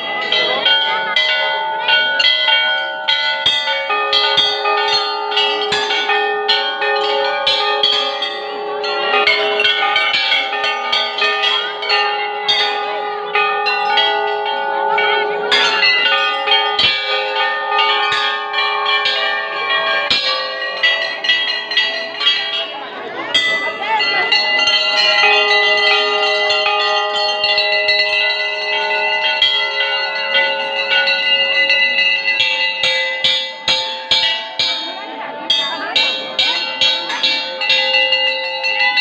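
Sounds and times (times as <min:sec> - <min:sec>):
large brass bells ringing: 0:00.0 - 0:39.0.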